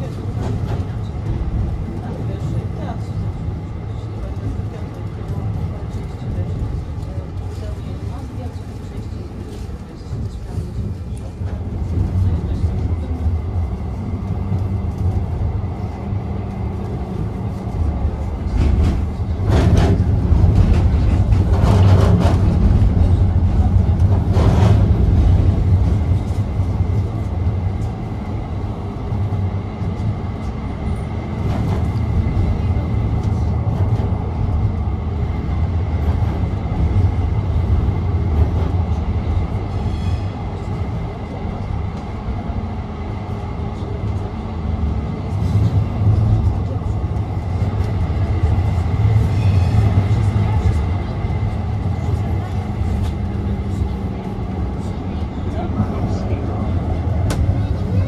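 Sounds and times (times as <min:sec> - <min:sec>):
tram rumbling along track: 0:00.0 - 0:58.0.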